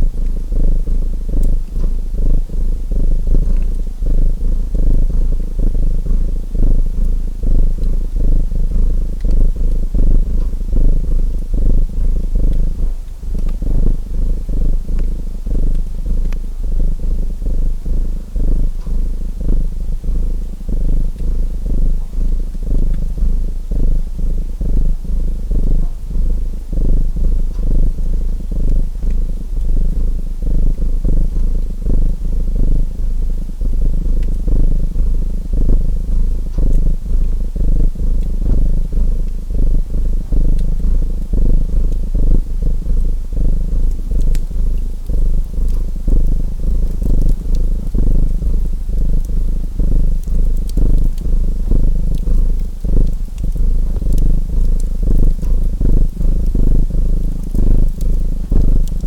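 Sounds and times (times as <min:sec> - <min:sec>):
cat purring: 0:00.0 - 0:59.0
faint fireplace crackles: 0:00.0 - 0:59.0.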